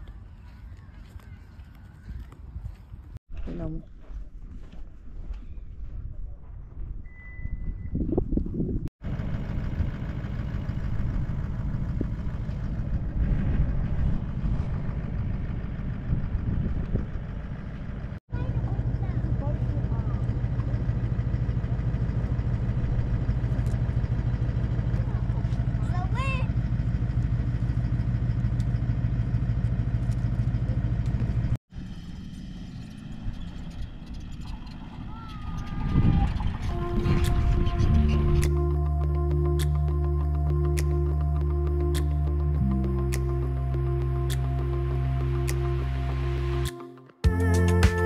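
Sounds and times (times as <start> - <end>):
vehicle engine rumbling: 7.7 - 48.0.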